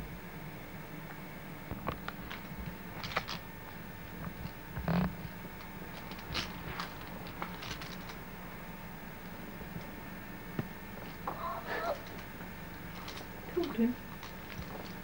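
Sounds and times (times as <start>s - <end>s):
faint clicks and rustles: 1.7s - 8.3s, 9.2s - 15.0s.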